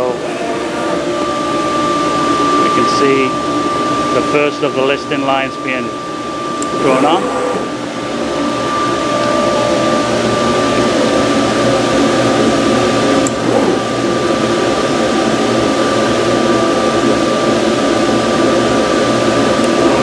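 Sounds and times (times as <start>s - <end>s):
vacuum blower whining: 0.0s - 20.0s.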